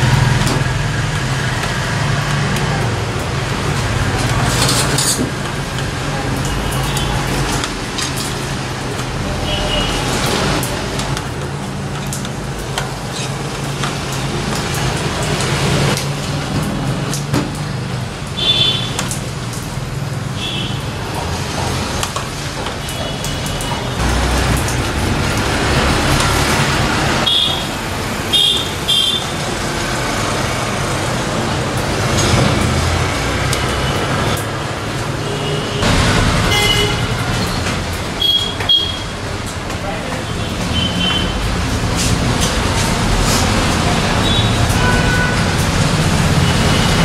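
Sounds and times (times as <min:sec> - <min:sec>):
road traffic noise: 0:00.0 - 0:47.0.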